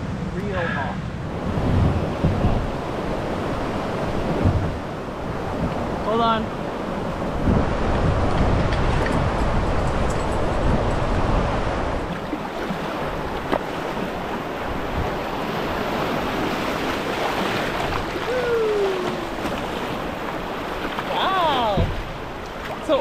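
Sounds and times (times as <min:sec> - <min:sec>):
fast river water rushing: 0:00.0 - 0:23.0
wind buffeting microphone: 0:00.0 - 0:23.0.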